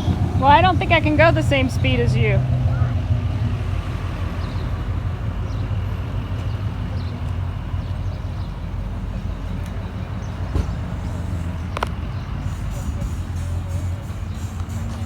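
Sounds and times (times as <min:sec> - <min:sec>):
engine running at low speed: 0:00.0 - 0:15.0.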